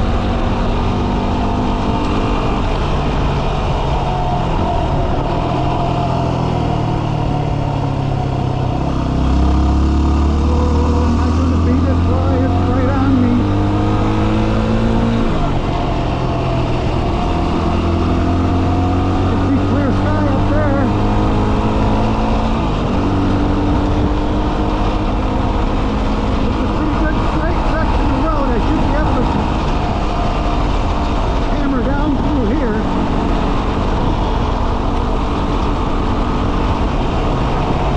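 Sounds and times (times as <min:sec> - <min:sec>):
motorcycle engine running: 0:00.0 - 0:37.9
wind noise: 0:00.0 - 0:37.9.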